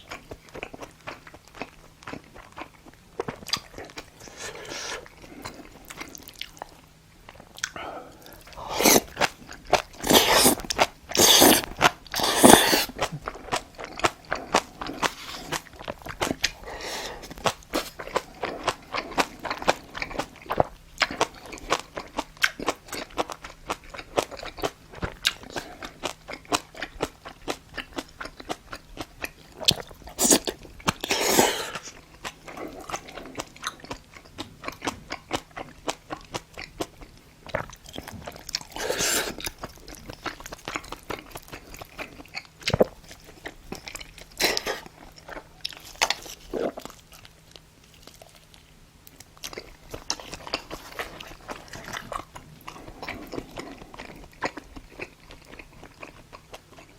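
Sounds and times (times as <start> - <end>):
chewing and eating sounds: 0.0 - 56.9.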